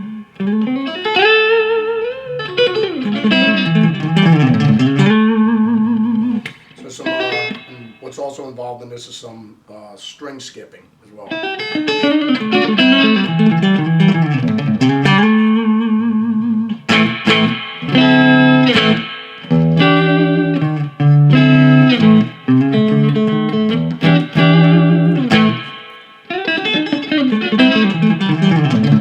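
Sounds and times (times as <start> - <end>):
electric guitar country lick: 0.0 - 8.7, 11.1 - 29.0.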